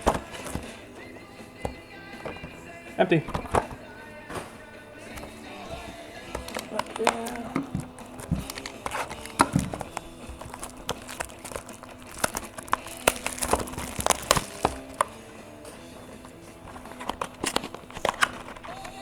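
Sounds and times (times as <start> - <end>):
background music: 0.0 - 19.0
packaging crinkles taps and clicks: 0.0 - 19.0.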